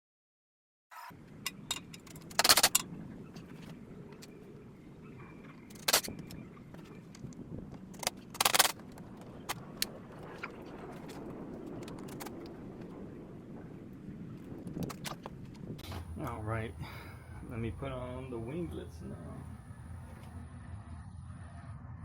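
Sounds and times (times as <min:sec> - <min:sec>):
steady low hum: 0:01.2 - 0:22.0.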